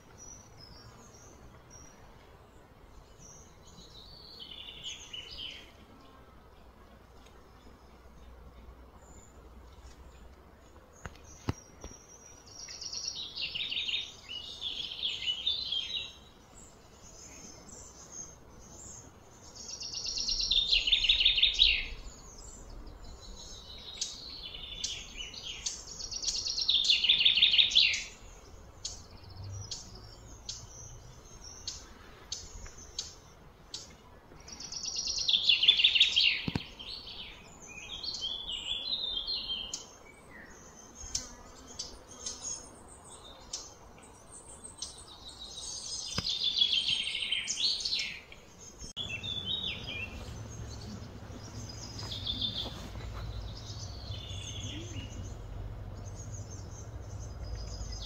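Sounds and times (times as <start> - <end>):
bird trilling song: 11.0 - 58.0.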